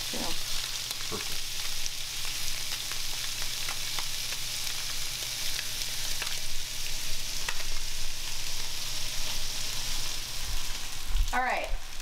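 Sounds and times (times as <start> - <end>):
fish sizzling in oil: 0.0 - 12.0
oil popping and crackling: 0.0 - 12.0.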